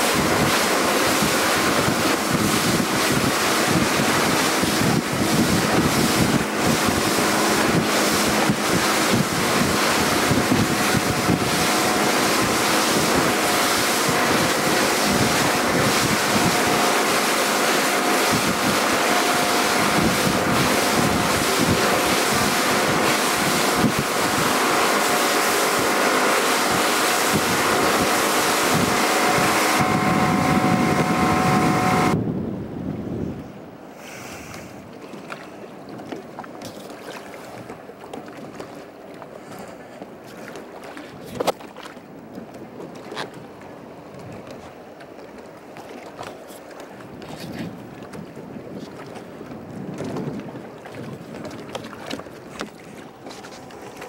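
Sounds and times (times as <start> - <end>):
wind buffeting microphone: 0.0 - 33.9, 34.5 - 45.0, 45.9 - 54.0
water rushing past boat: 0.0 - 54.0.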